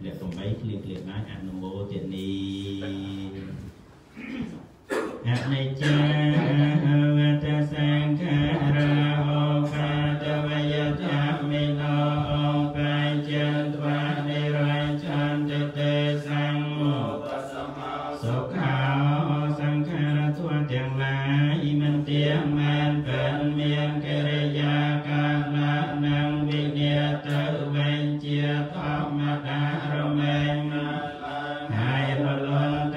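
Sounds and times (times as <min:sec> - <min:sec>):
monks chanting: 0:00.0 - 0:04.3, 0:05.2 - 0:32.9.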